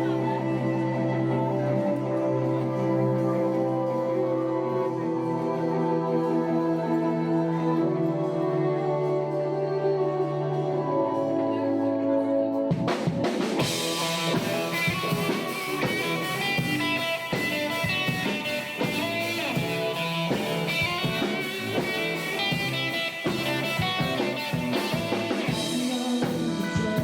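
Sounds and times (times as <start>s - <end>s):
rock band music: 0.0s - 27.0s.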